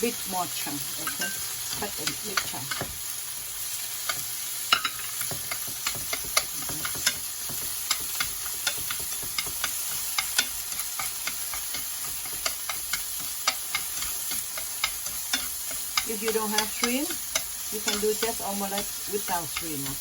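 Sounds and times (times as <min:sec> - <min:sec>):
oil sizzling in a frying pan: 0:00.0 - 0:20.0
utensil scraping a pan: 0:01.0 - 0:20.0.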